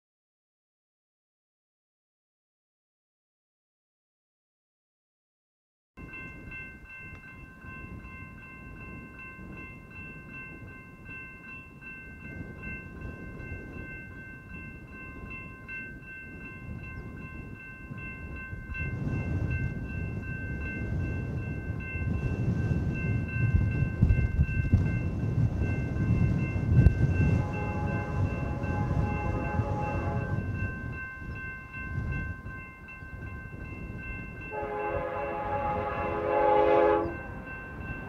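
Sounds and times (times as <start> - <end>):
crossing warning bell ringing: 6.0 - 38.0
freight train rumble: 6.0 - 38.0.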